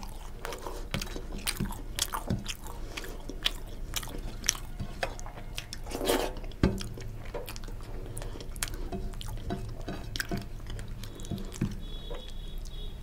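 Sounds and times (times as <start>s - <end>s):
wet squishy chewing: 0.0s - 12.8s.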